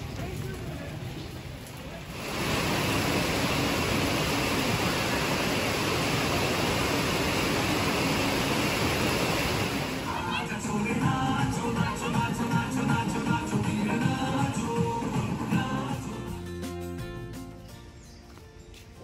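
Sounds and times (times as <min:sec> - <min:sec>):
rain pouring: 0:00.0 - 0:15.8.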